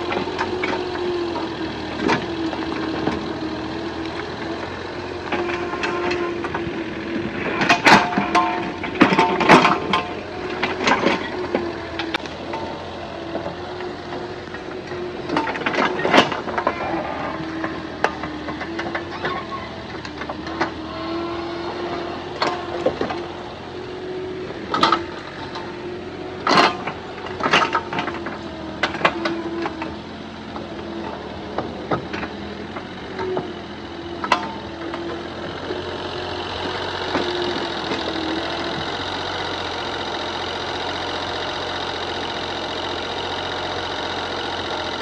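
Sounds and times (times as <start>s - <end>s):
small engine humming: 0.0s - 45.0s.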